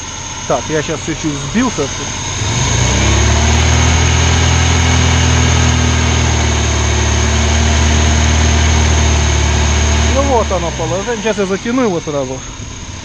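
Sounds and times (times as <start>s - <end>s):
car engine running at raised speed: 0.0s - 13.0s.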